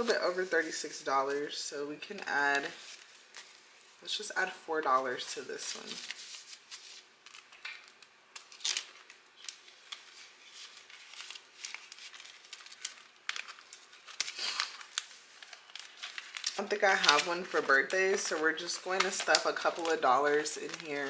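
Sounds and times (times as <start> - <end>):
plastic envelope crackles: 0.0 - 21.0
paper bills rustling and crinkling: 2.1 - 4.3, 4.9 - 21.0.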